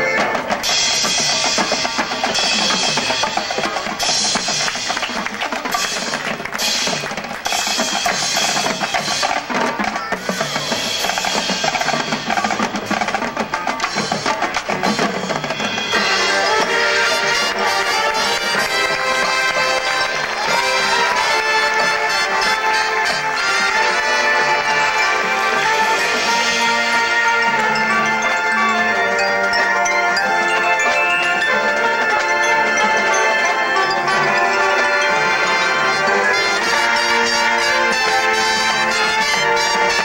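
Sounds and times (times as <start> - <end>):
mallet percussion: 0.0 - 40.0
marching drum line: 0.0 - 40.0.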